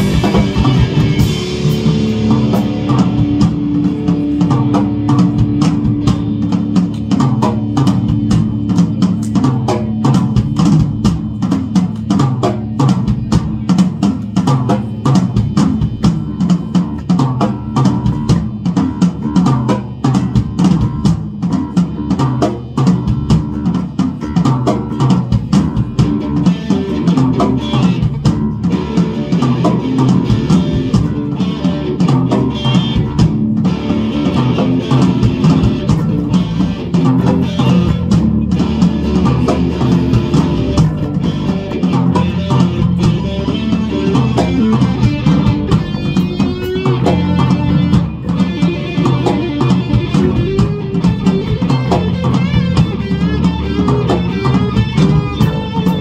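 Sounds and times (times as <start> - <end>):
drum kit kick and snare: 0.0 - 56.0
electric bass: 0.0 - 56.0
electric guitar: 0.0 - 56.0.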